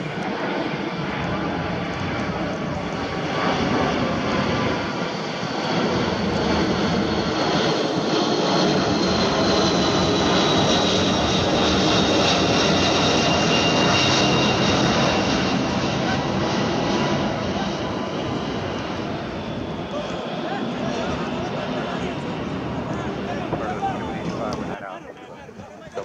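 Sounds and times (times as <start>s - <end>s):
jet airliner roar: 0.0s - 26.0s
jet engine whine: 0.0s - 26.0s.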